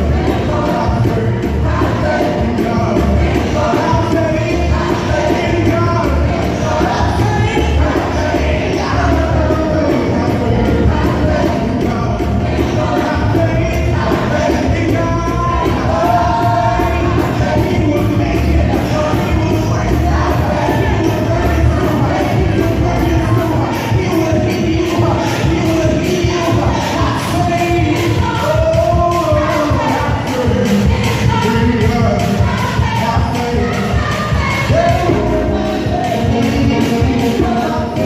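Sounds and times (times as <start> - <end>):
band with steady bass beat: 0.0 - 38.0
choir singing gospel: 0.0 - 38.0.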